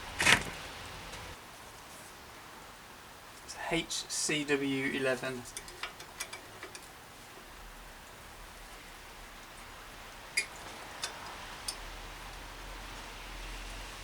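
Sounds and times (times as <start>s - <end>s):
rain patter: 0.0s - 14.0s.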